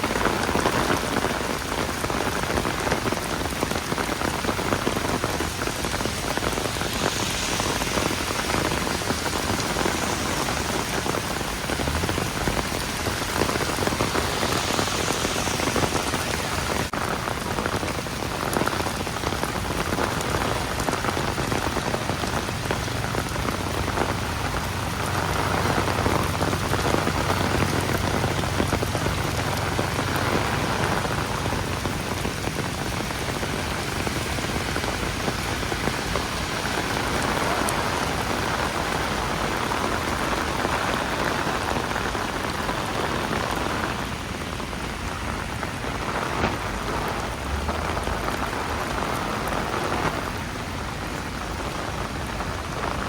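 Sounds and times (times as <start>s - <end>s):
heavy rain on street: 0.0s - 53.0s.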